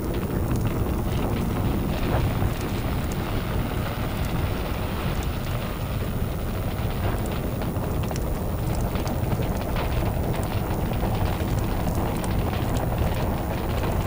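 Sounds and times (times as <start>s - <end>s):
large fire burning: 0.0s - 14.0s.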